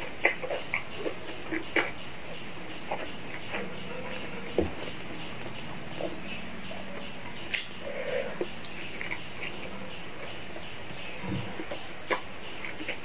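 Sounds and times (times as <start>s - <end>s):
chewing fries: 0.0s - 13.0s.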